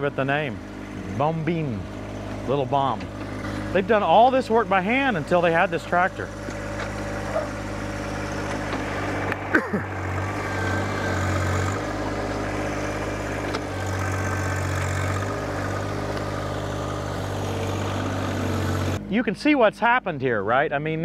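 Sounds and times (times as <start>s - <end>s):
tractor diesel engine under load: 0.0s - 20.3s.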